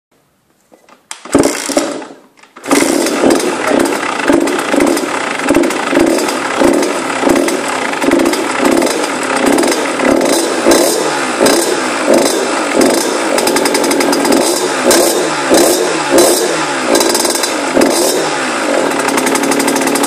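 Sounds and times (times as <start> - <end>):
two-stroke engine running: 1.2 - 20.0.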